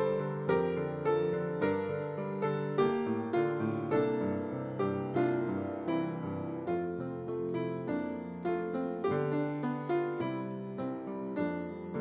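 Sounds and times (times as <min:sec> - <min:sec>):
slow quiet piano chords: 0:00.0 - 0:12.0.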